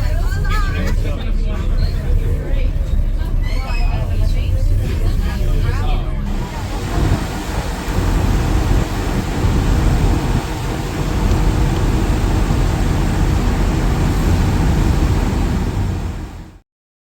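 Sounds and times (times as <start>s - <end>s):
moving train rumble: 0.0s - 16.6s.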